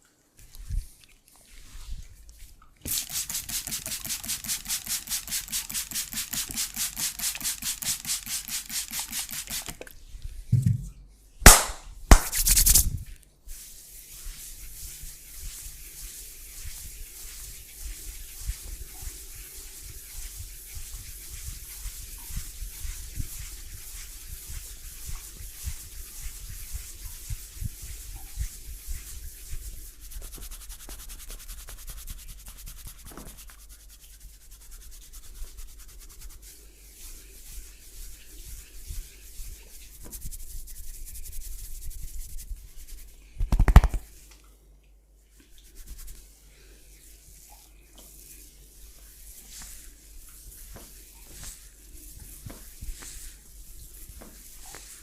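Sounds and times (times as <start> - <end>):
hands rubbing skin and hair: 0.4 - 44.3, 45.5 - 55.0.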